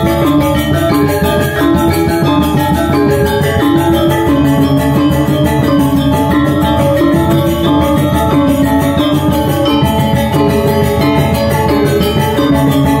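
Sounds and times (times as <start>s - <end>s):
bronze metallophones ringing: 0.0s - 13.0s
hand drums: 0.0s - 13.0s.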